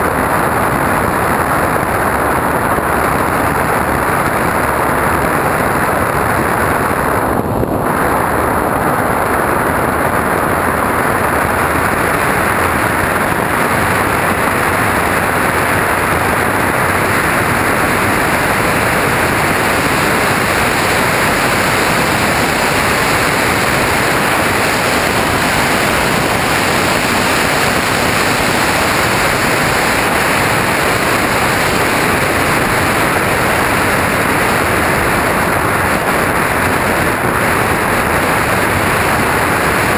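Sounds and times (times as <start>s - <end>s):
aircraft motor noise: 0.0s - 39.9s
rush of air: 0.0s - 39.9s.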